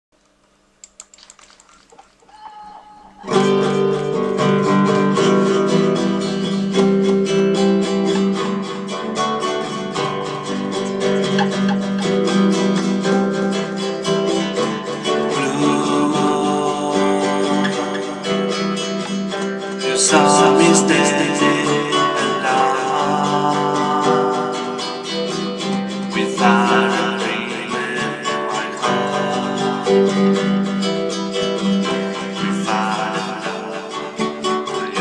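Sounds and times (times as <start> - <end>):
band music with guitar: 2.7 - 35.0.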